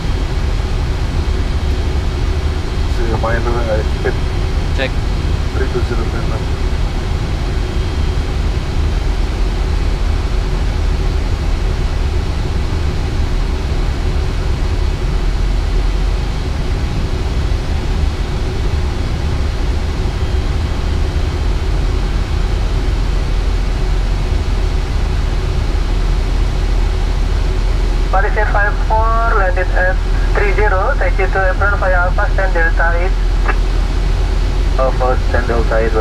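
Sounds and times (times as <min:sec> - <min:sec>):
deep rumble: 0:00.0 - 0:36.0
faint steady hum: 0:00.0 - 0:36.0.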